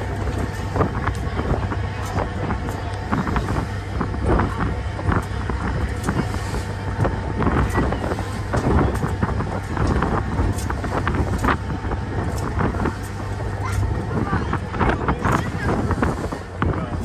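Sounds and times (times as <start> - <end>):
ferry engines rumbling: 0.0 - 17.0
wind buffeting microphone: 0.0 - 17.0.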